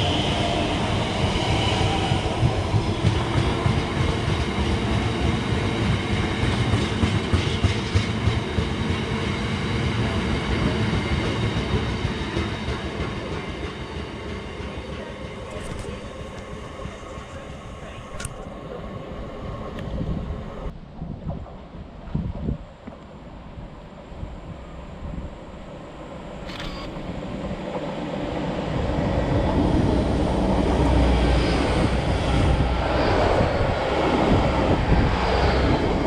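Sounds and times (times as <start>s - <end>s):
train passing: 0.0s - 20.8s, 23.2s - 36.0s.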